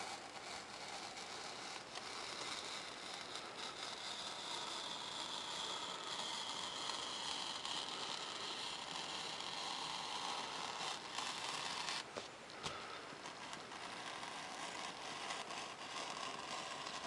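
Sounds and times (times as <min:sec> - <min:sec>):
knife cutting through foam: 0:00.0 - 0:17.0.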